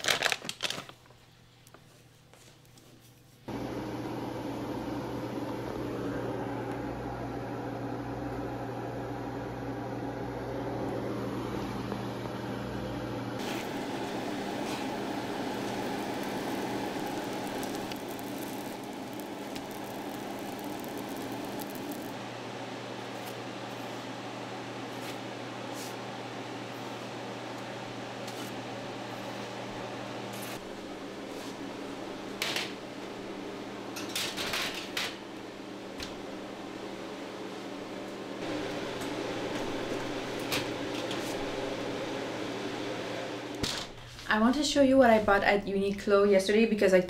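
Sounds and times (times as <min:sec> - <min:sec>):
kitchen fan whirring: 0:00.0 - 0:47.0.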